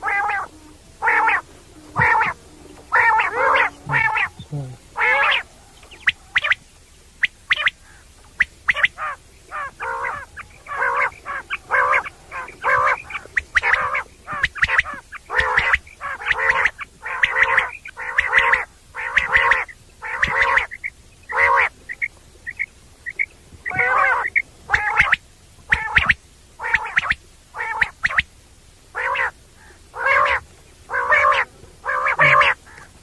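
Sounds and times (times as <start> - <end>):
quail calling nasal notes: 0.0 - 33.0.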